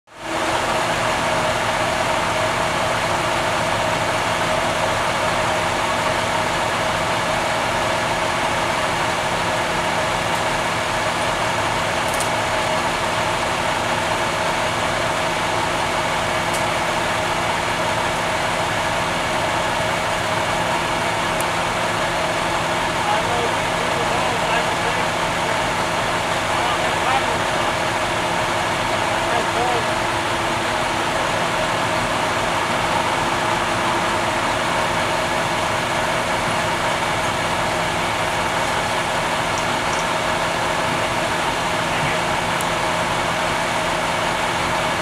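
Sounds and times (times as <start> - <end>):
truck engine running: 0.1 - 45.0
hydraulic whine: 0.2 - 45.0.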